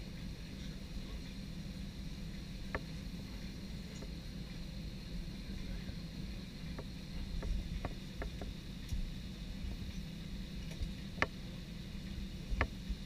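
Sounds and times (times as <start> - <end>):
airliner cabin hum: 0.0 - 13.0
thin high whine: 0.0 - 13.0.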